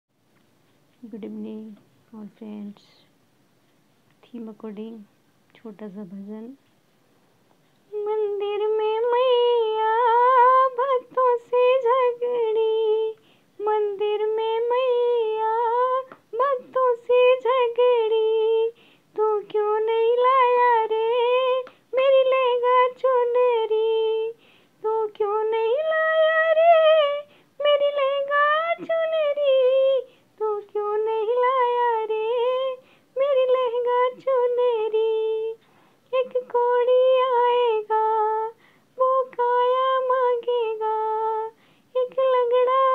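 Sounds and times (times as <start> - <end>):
woman singing devotional song: 0.9 - 3.2, 4.1 - 6.7, 7.8 - 42.9.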